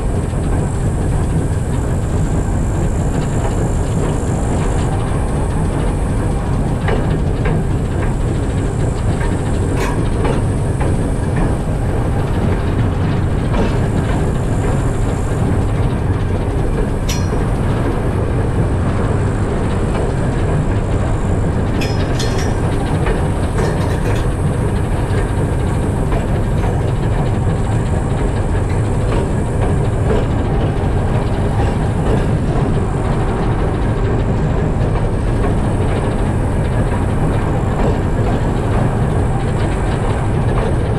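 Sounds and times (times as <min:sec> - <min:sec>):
diesel locomotive engine rumble: 0:00.0 - 0:40.9
wagons running on rails: 0:00.0 - 0:40.9.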